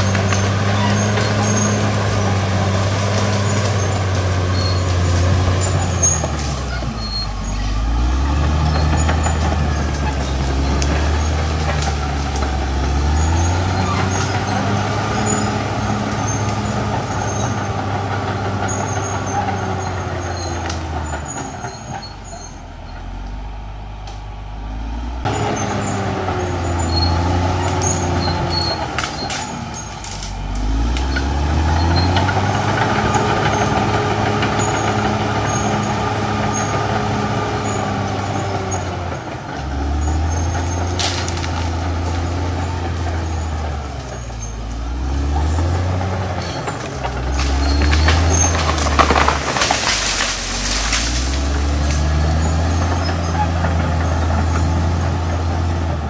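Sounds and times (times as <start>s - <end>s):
bulldozer diesel engine under load: 0.0s - 56.0s
bulldozer pushing soil and brush: 0.0s - 56.0s.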